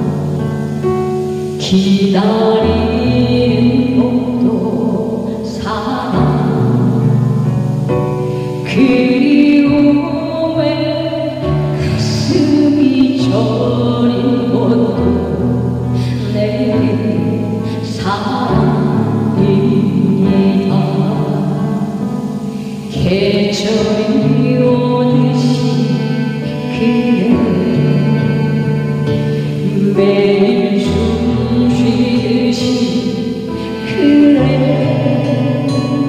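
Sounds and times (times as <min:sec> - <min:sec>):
woman singing pop ballad: 0:00.0 - 0:36.0.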